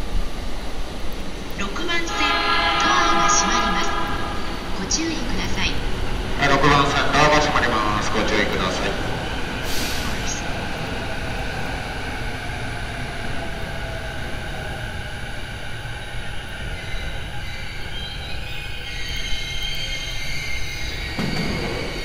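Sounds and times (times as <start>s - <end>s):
electric train rumble and hum: 0.0s - 22.0s.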